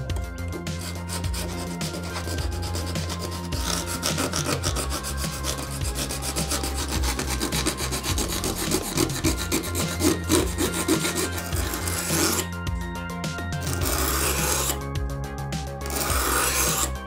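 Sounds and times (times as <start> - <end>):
blade scraping plastic: 0.5 - 12.5, 13.6 - 14.8, 15.8 - 17.0.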